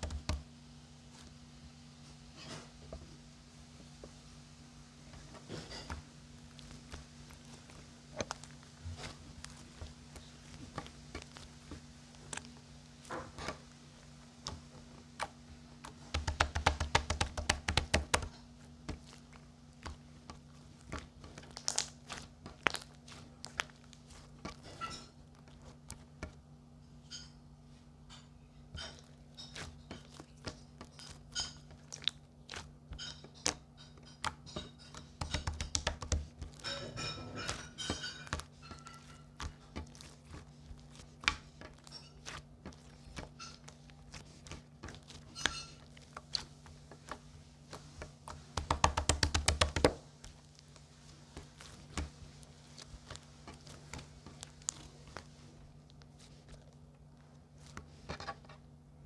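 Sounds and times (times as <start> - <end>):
crunching and chewing: 5.2 - 16.2, 18.0 - 26.2, 28.1 - 48.5, 49.9 - 57.8.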